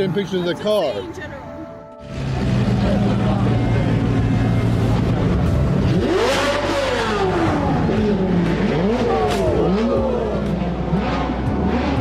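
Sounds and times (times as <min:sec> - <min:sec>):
car engine revving: 0:02.0 - 0:12.0.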